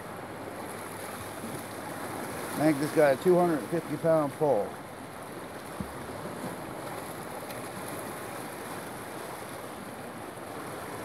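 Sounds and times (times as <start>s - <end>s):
waves washing against pier: 0.0s - 11.0s.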